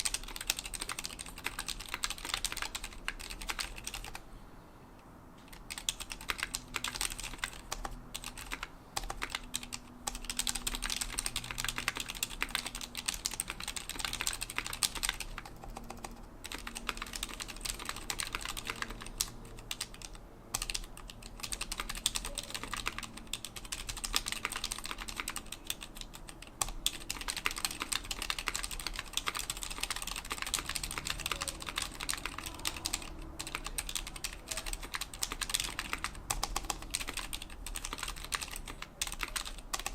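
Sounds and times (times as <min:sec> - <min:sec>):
fast typing on mechanical keyboard: 0:00.0 - 0:04.2, 0:05.4 - 0:39.9.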